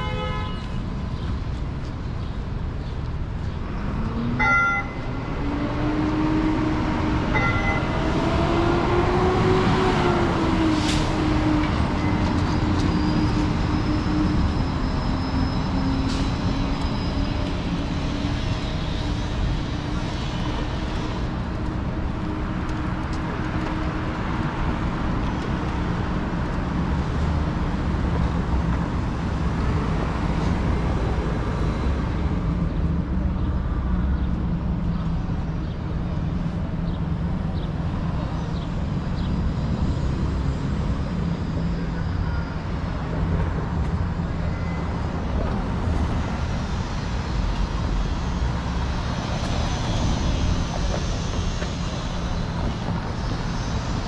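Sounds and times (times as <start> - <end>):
city traffic noise: 0.0 - 54.0
electric streetcar motor whine: 3.2 - 54.0.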